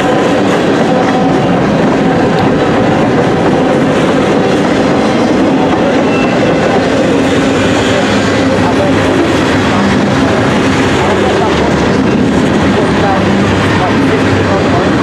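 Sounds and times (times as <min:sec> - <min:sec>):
steel wheels running on rails: 0:00.0 - 0:15.0.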